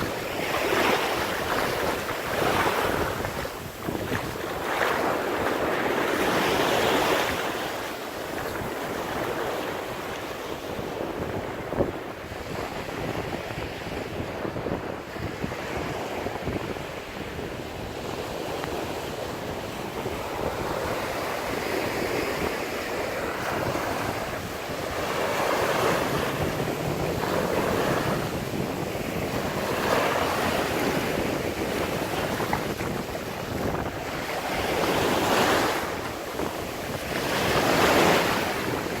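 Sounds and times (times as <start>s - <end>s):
ocean waves breaking: 0.0s - 39.0s
wind buffeting microphone: 0.0s - 39.0s.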